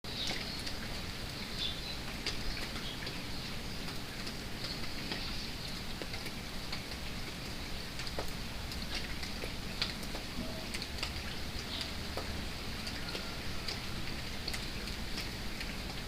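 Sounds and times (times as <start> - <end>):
rain drops tapping: 0.0 - 16.0.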